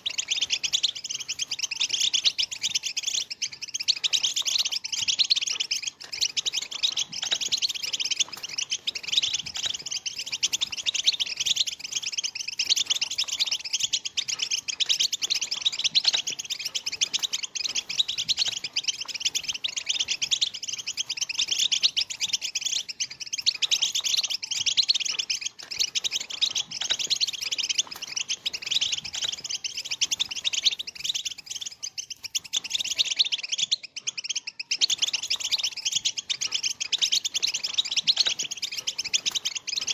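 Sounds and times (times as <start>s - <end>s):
goldfinches twittering: 0.0s - 39.9s.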